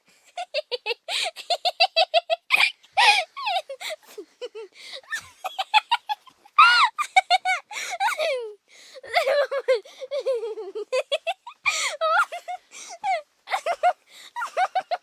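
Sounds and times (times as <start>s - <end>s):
girl laughing and giggling: 0.1s - 15.0s.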